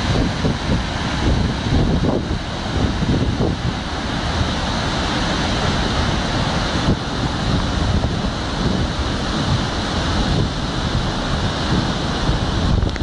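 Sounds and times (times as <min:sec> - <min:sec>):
waterfall rushing over rock: 0:00.0 - 0:13.0
wind buffeting microphone: 0:00.0 - 0:13.0.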